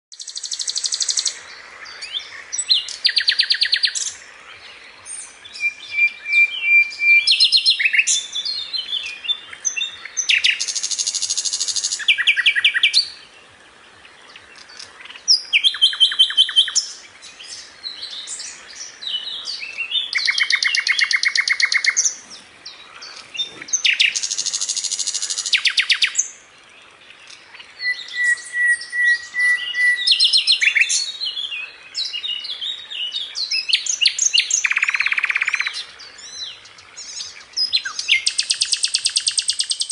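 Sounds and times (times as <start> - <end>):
songbird trills and chirps: 0.1 - 39.9.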